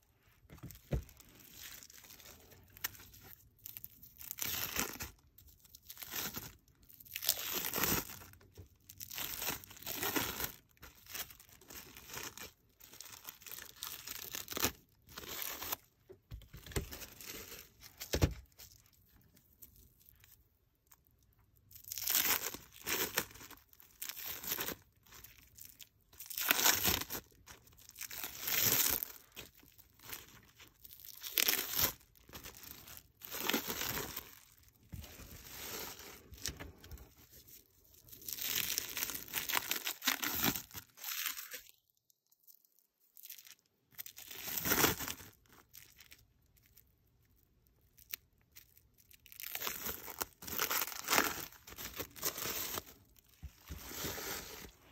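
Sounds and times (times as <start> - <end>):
plastic wrap crinkling and tearing: 0.2 - 54.9.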